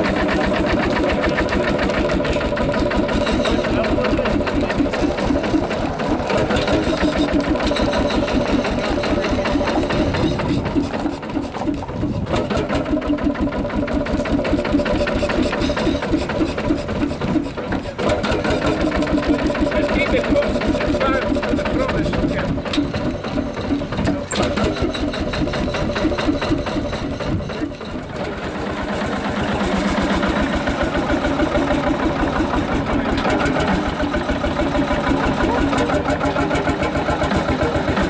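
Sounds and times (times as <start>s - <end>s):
tractor engine beating: 0.0s - 38.0s.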